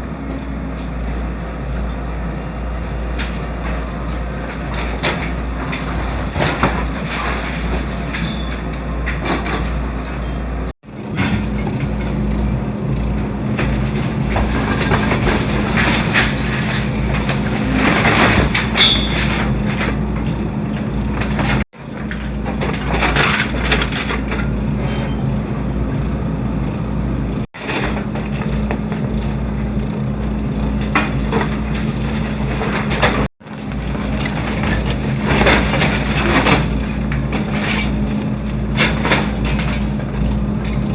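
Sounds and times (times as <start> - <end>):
excavator engine running: 0.0 - 40.9
concrete rubble crunching and scraping: 1.9 - 25.4, 27.4 - 40.9.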